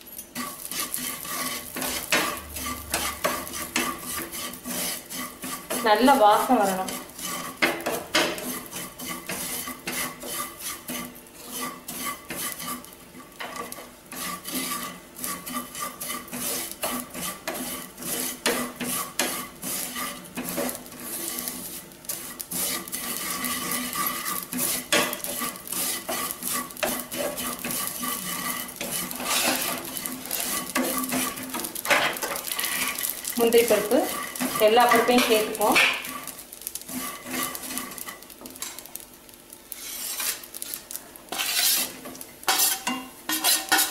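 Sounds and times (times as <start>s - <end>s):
spatula scraping a frying pan: 0.0s - 43.9s.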